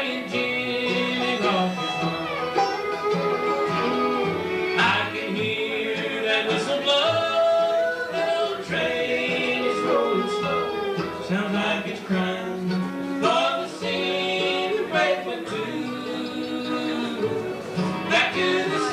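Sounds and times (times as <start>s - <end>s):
banjo: 0.0s - 18.9s
fiddle: 0.0s - 18.9s
guitar: 0.0s - 18.9s.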